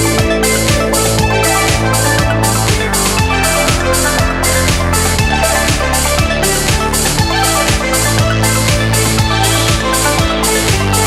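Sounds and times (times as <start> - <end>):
electronic music: 0.0 - 11.0
kick drum beat: 0.0 - 11.0
sustained bass line: 0.0 - 11.0.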